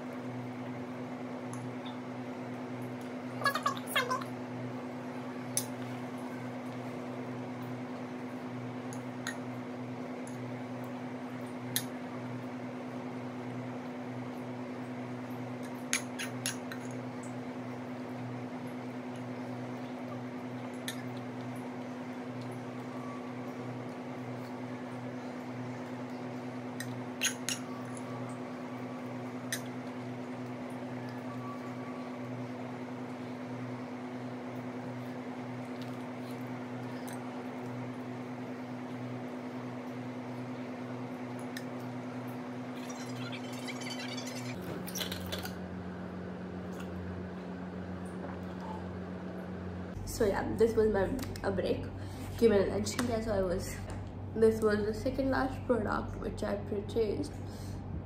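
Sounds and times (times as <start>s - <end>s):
mechanical hum with low throb: 0.0s - 58.0s.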